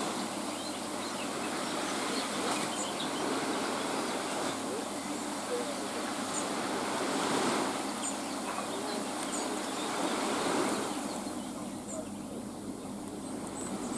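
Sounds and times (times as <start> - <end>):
sea surf washing onto shore: 0.0 - 13.9.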